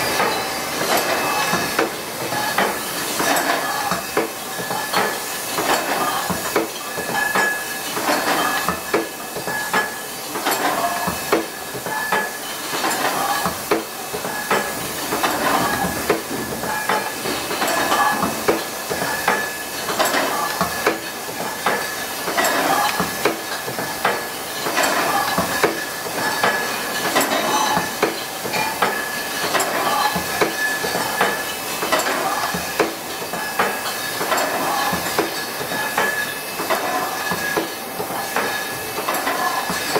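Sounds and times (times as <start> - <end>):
machine hissing: 0.0 - 39.9
glass bottles clinking and clacking: 0.1 - 39.9.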